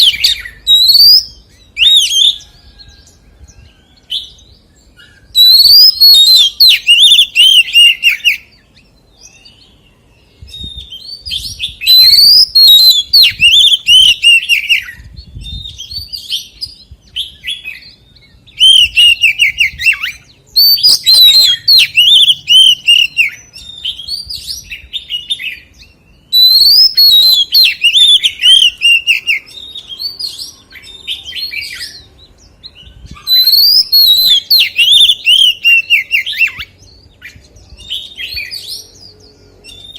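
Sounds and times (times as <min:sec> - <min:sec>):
magpie-robin singing whistled notes: 0:00.0 - 0:39.9.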